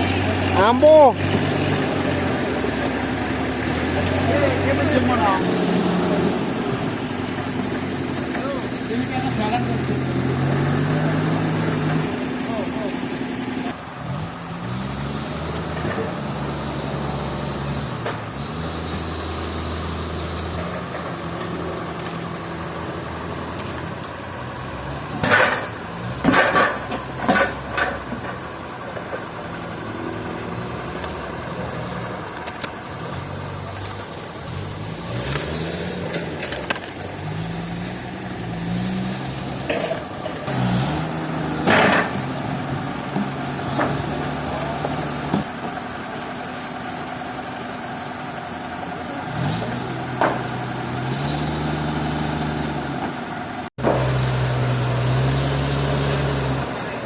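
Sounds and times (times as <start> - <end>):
engine revving: 0.0 - 45.5, 48.2 - 57.0.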